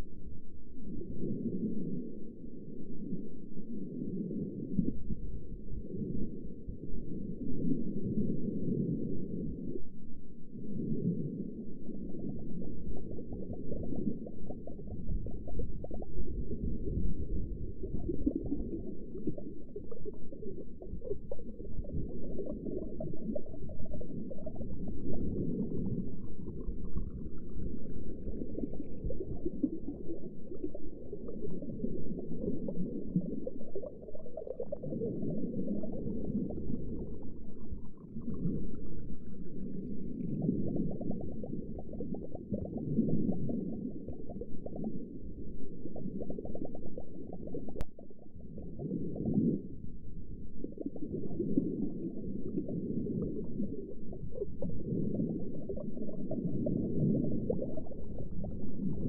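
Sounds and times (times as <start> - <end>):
underwater low rumble: 0.0 - 59.0
water bubbling and gurgling: 0.0 - 59.0.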